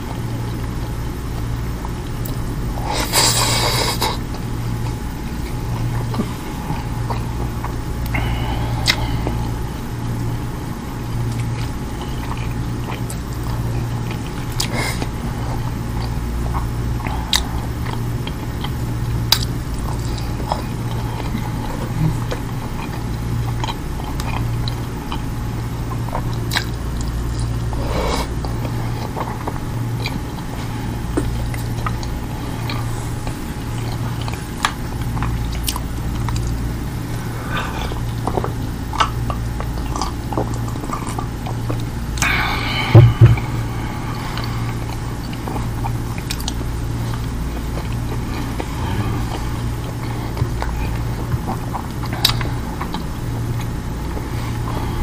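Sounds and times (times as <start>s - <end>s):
chewing and mouth sounds: 0.0s - 55.0s
steady low hum: 0.0s - 55.0s.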